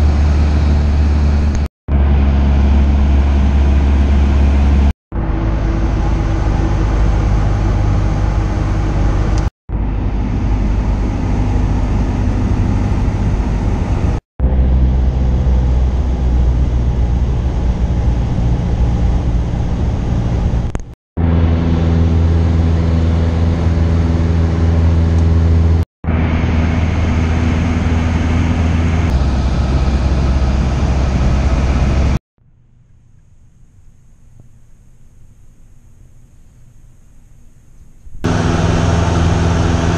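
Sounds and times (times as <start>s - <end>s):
airplane engine and propeller: 0.0s - 32.2s, 38.0s - 39.9s.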